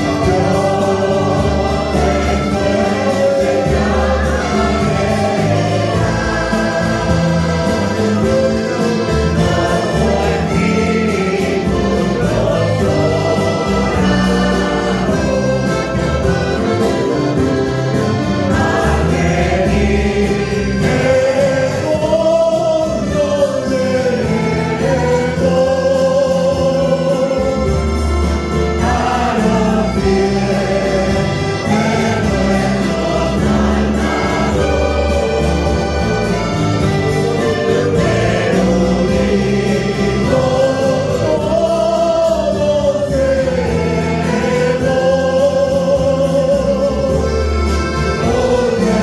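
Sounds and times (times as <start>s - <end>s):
accordion: 0.0s - 49.0s
choir singing a hymn: 0.0s - 49.0s
mandolin: 0.0s - 49.0s
strummed acoustic guitars: 0.0s - 49.0s.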